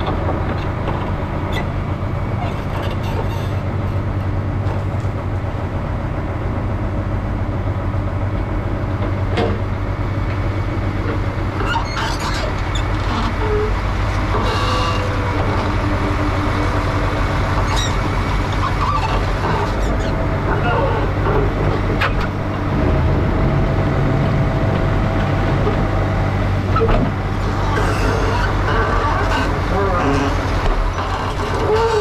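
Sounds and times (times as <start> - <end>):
heavy engine humming: 0.0 - 32.0.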